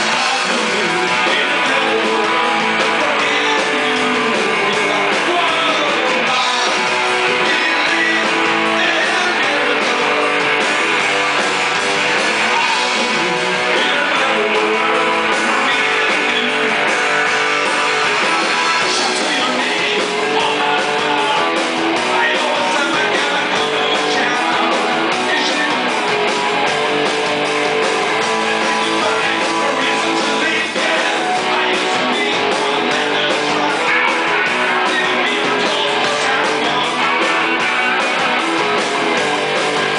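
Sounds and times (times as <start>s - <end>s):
man singing: 0.0s - 11.0s, 12.3s - 26.3s, 28.1s - 38.8s
bass guitar: 0.0s - 39.9s
drums: 0.0s - 39.9s
electric guitars: 0.0s - 39.9s.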